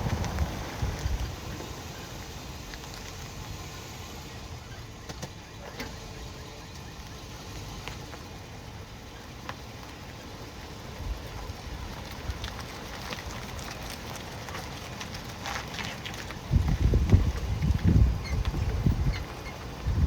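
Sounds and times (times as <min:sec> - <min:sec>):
vehicle running noise: 0:00.0 - 0:20.0.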